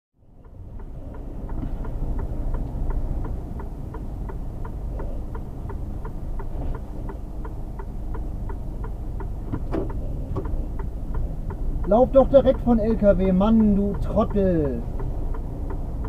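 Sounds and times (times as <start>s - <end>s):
diesel truck engine rumble: 0.2s - 16.0s
regular ticking: 0.2s - 16.0s.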